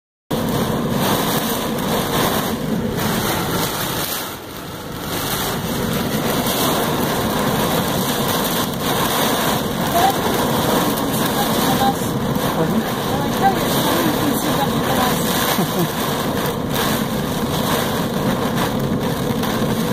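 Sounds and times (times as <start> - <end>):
heavy rain on car roof: 0.3 - 19.9.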